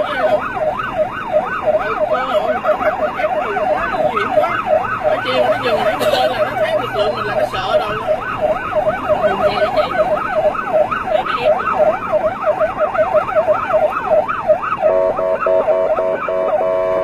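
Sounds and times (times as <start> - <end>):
police siren yelping: 0.0 - 17.0.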